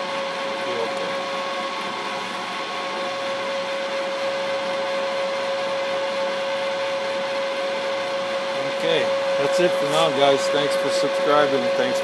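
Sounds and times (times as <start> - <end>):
constant machine whine: 0.0 - 12.0
milling machine motor hum: 0.0 - 12.0.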